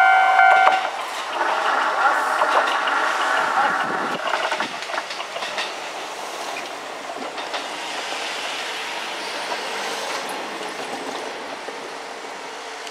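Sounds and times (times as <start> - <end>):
train wheel and rail noise: 0.0 - 12.9
wheels clacking over rail joints: 0.0 - 12.9.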